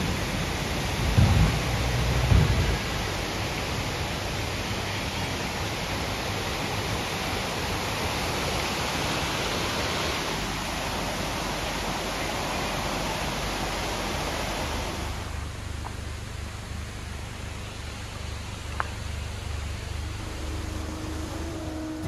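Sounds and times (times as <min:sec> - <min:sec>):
creek rushing over boulders: 0:00.0 - 0:22.0.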